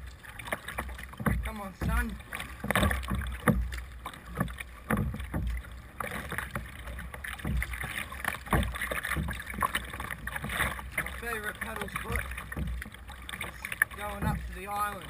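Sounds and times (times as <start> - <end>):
paddle splashing in water: 0.0 - 15.0.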